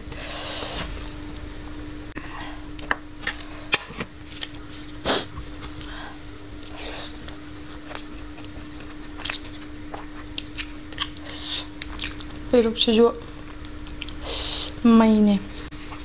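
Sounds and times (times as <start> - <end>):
steady faint hum: 0.0 - 16.0.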